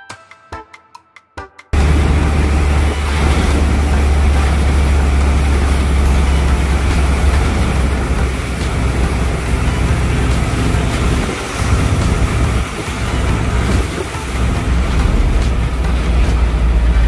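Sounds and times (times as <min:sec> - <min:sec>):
truck engine rumble: 0:01.8 - 0:17.0
wind and road noise: 0:01.8 - 0:17.0.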